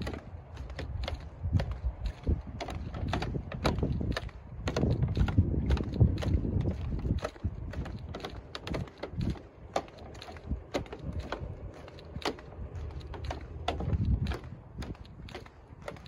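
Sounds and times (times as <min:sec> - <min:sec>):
footsteps on wooden boardwalk: 0:00.0 - 0:16.0
wind rumbling on microphone: 0:00.0 - 0:16.0.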